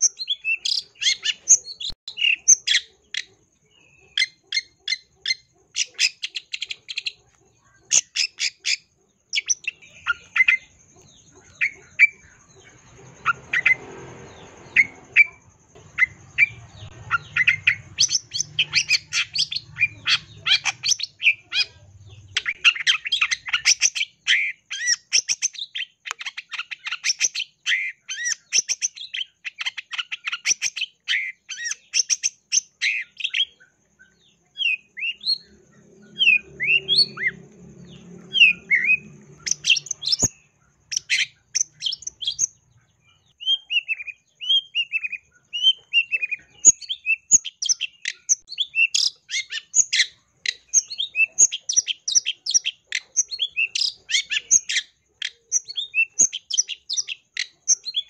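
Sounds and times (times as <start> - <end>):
bird chattering song: 0.0 - 58.0.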